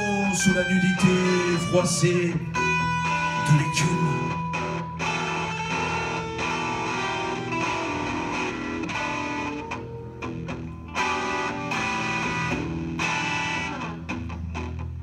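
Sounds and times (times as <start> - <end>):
bass guitar line: 0.0 - 15.0
electric guitar held notes: 0.0 - 15.0.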